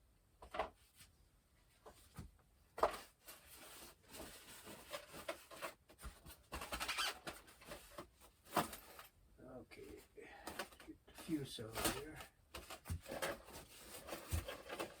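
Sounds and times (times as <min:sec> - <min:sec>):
foam parts and packaging rustling: 0:01.7 - 0:15.0.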